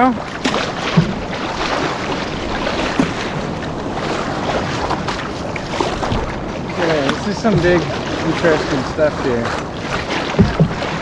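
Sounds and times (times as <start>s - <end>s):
waves washing around a canoe: 0.0s - 11.0s
wind buffeting the microphone: 0.0s - 11.0s.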